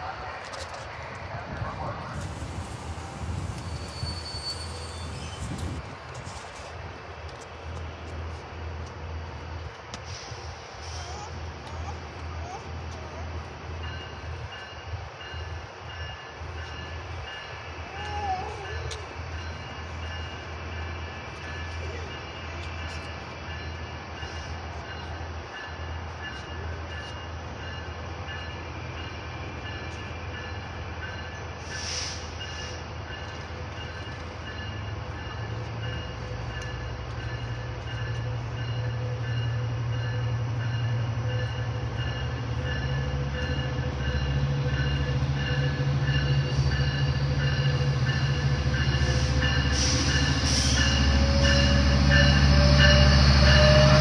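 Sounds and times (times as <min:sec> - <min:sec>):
diesel locomotive engine drone: 0:00.0 - 0:54.0
train rumble: 0:00.0 - 0:54.0.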